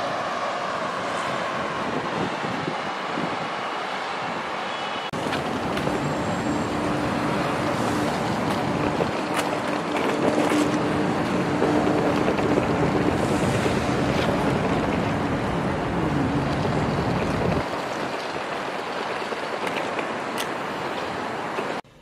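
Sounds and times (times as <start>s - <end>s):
distant traffic: 0.0s - 22.0s
wind buffeting microphone: 0.8s - 21.8s.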